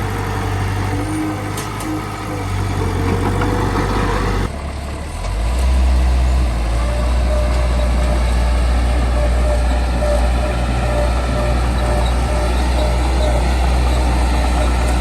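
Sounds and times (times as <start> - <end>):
bulldozer diesel engine: 0.0 - 15.0.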